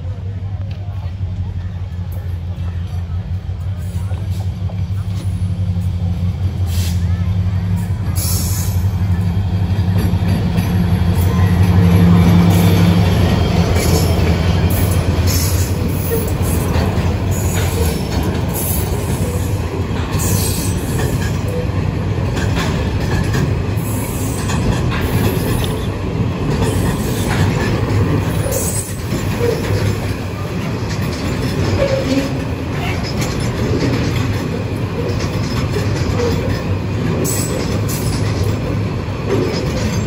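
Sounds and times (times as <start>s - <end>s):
locomotive engine drone: 0.0s - 40.0s
steel wheels rumbling on rail: 0.0s - 40.0s.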